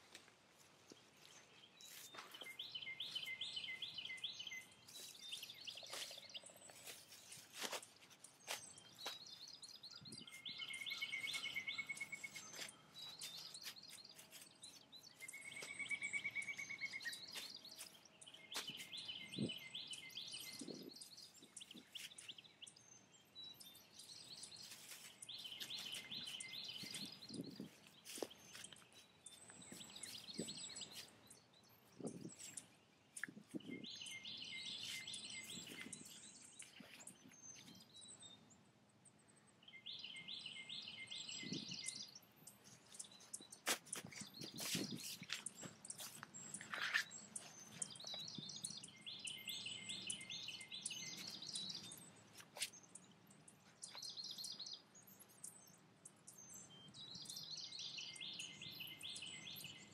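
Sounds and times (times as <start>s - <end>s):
birds singing: 0.9s - 59.9s.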